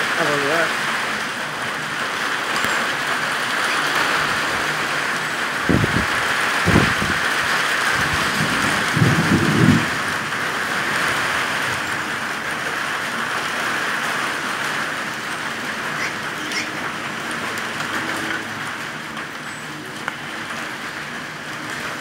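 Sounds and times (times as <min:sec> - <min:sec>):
heavy rain hissing: 0:00.0 - 0:22.0
thunder rumbling: 0:00.8 - 0:19.3.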